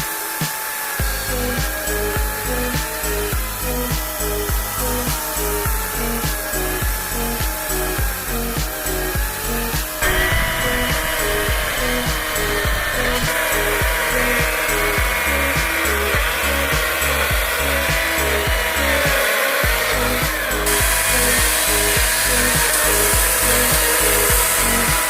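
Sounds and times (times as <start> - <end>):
background music with steady beat: 0.0 - 25.0
electric chainsaw cutting wood: 0.0 - 25.0.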